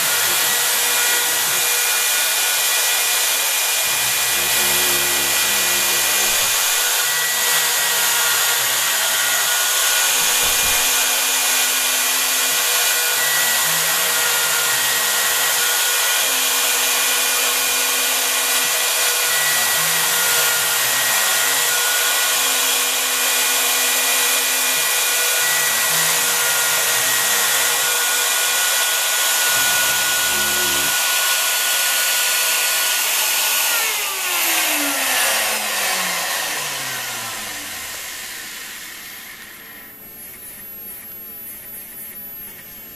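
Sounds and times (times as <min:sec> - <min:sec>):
stepper motors humming: 0:00.0 - 0:31.8, 0:32.9 - 0:42.9
router spindle high whine: 0:00.0 - 0:42.9.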